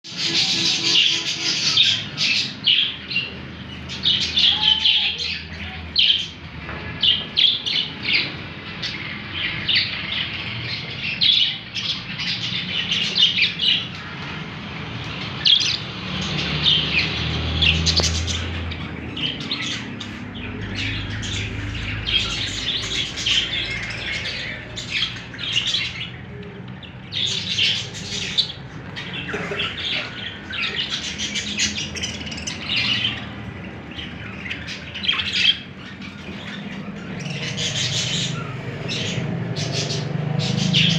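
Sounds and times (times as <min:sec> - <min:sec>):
parrots chattering: 0:00.1 - 0:14.1, 0:15.4 - 0:40.9.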